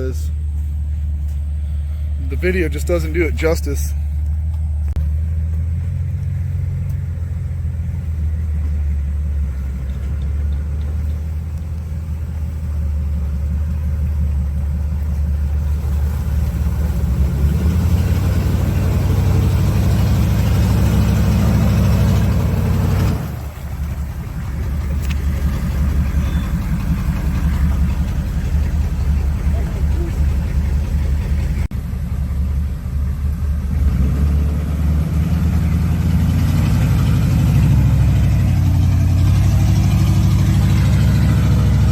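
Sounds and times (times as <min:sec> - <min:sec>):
off-road vehicle engine revving: 0:00.0 - 0:31.7, 0:32.6 - 0:41.9.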